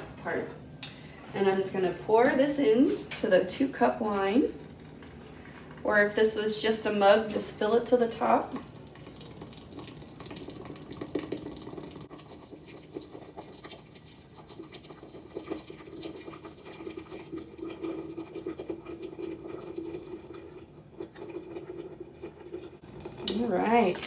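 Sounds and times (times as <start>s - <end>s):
hot water pouring into glass jar: 3.5s - 24.0s.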